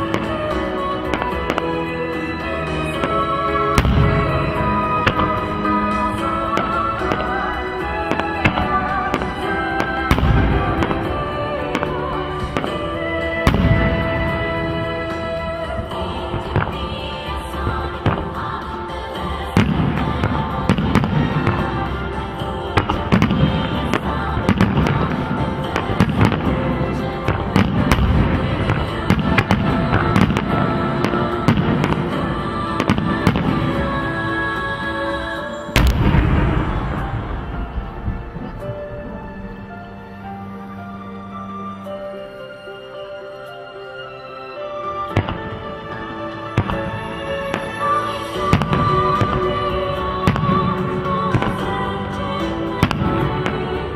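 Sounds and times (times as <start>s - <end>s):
fireworks bursting: 0.0s - 39.7s, 45.1s - 53.9s
music with sustained notes: 0.0s - 53.9s.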